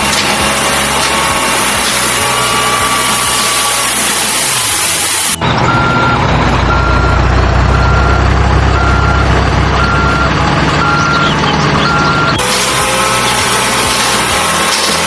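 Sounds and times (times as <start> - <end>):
low engine rumble: 0.0 - 15.0
truck reversing alarm beeping: 0.0 - 15.0.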